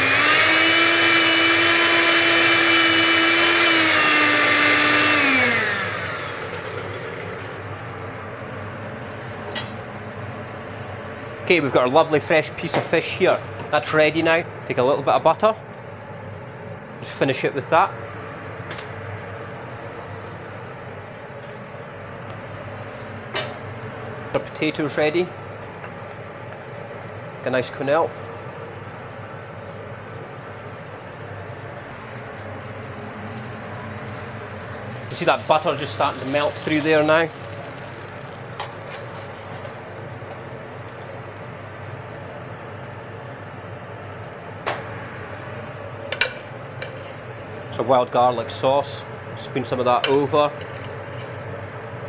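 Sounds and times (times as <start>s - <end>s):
kitchen ventilation hum: 0.0s - 52.0s.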